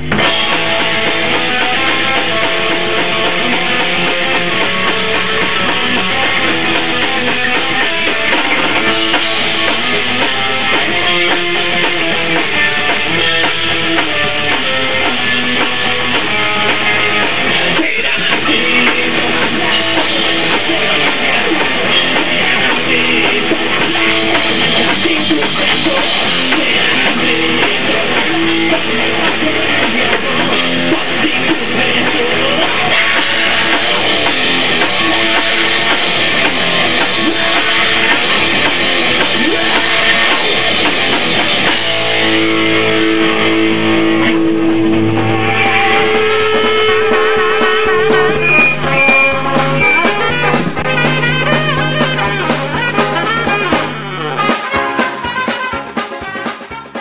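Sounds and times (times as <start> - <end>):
distorted electric guitar: 0.0 - 57.0
drum kit playing: 0.0 - 57.0.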